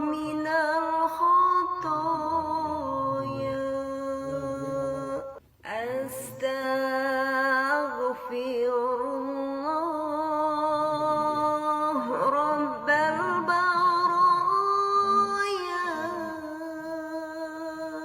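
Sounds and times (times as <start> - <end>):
person chanting a prayer: 0.0 - 8.1, 8.7 - 18.0.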